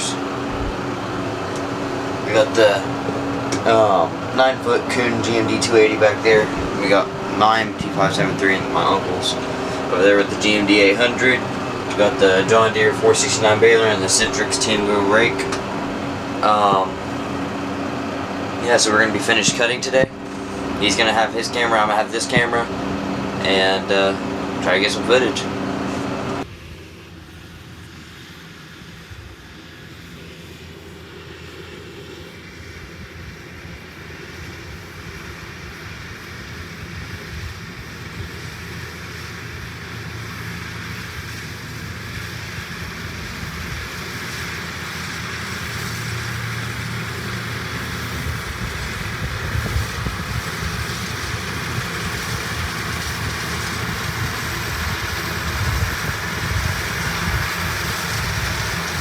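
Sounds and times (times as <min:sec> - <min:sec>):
tractor engine under load: 0:00.0 - 0:28.9, 0:29.5 - 0:59.0.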